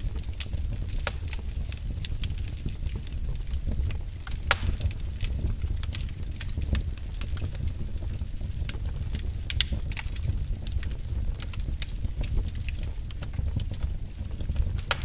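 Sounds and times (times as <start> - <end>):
low rumble of flames: 0.0 - 15.0
sharp fire pops: 0.0 - 15.0
wood fire crackling: 0.0 - 15.0.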